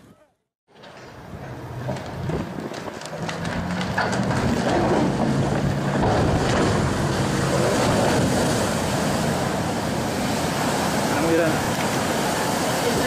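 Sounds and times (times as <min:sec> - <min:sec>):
rushing splashing water: 0:02.2 - 0:13.0.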